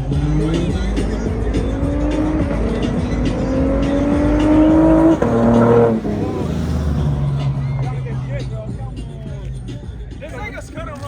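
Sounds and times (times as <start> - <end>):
car engine revving hard: 0.0 - 9.0.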